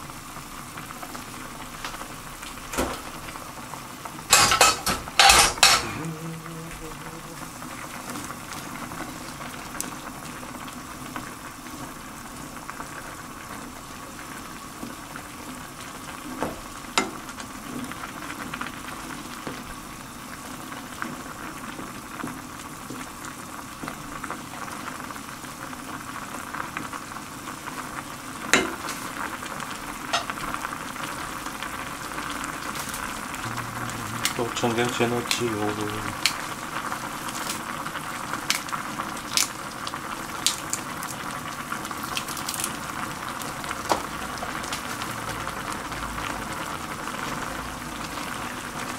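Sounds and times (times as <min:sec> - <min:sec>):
broth boiling and bubbling: 0:00.0 - 0:48.9.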